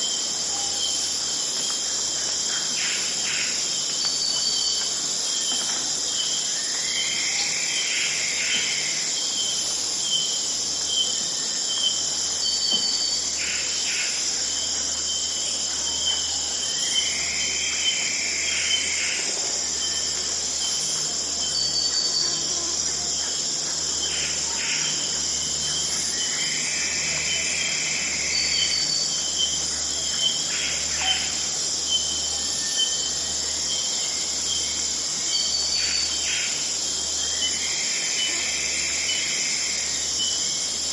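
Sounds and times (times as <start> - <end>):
insects buzzing and chirping: 0.0 - 40.9.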